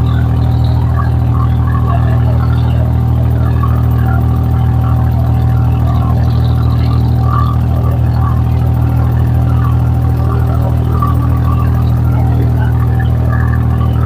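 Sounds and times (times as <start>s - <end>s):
boat diesel engine humming: 0.0s - 14.0s.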